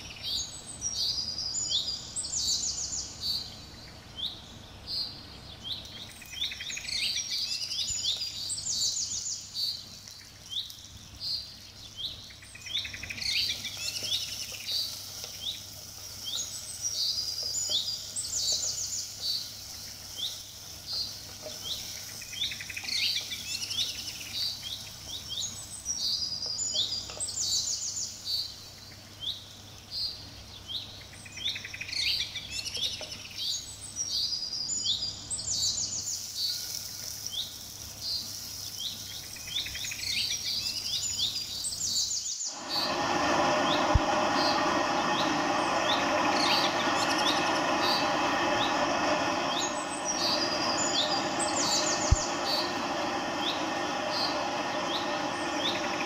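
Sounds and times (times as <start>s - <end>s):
birds chirping and trilling: 0.0s - 37.5s, 38.2s - 56.0s.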